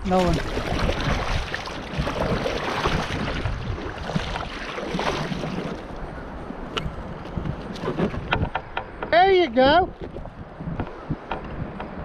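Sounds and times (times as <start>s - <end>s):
water around a kayak: 0.0s - 12.0s
wind on microphone: 0.0s - 12.0s.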